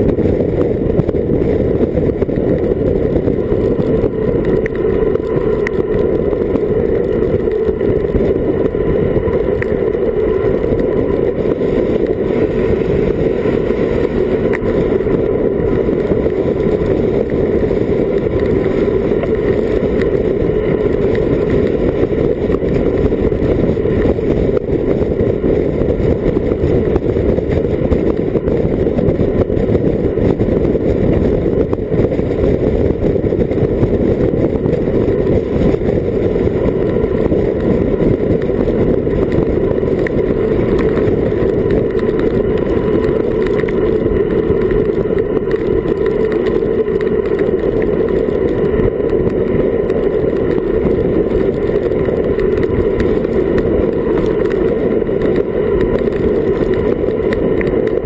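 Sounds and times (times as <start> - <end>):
wind rush on microphone: 0.0 - 58.0.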